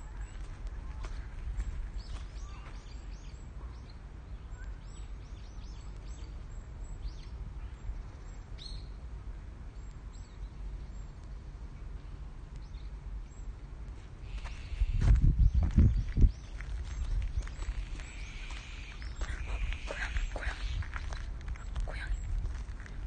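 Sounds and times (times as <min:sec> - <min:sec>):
birds chirping: 0:00.0 - 0:09.0, 0:09.7 - 0:23.0
low steady rumble: 0:00.0 - 0:23.0.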